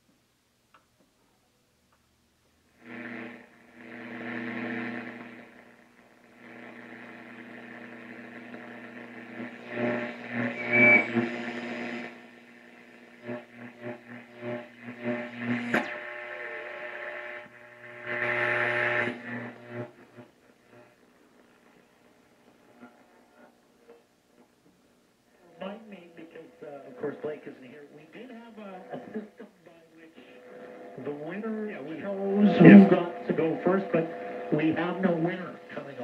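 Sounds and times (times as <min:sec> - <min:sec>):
radio crackle: 0:02.7 - 0:36.0
radio hum and static: 0:02.7 - 0:36.0.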